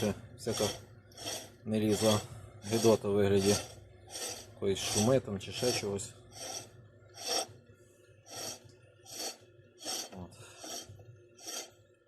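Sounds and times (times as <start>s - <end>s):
scrubbing strokes on metal: 0.0s - 7.6s, 8.3s - 11.8s.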